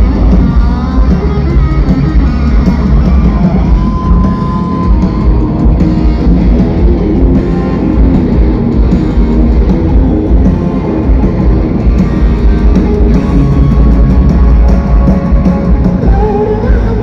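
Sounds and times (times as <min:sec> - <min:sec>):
loud instrumental rock music: 0:00.0 - 0:17.0.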